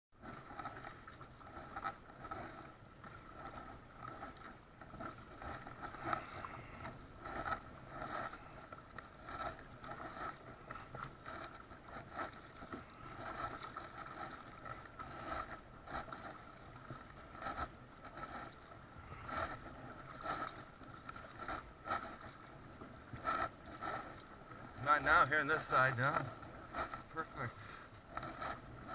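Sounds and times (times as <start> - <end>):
paddle splashing in water: 0.2 - 28.9
water sloshing against plastic hull: 0.2 - 28.9.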